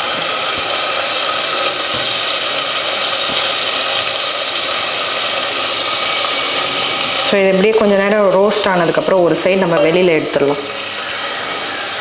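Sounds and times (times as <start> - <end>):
cheese sizzling in butter: 0.0 - 12.0.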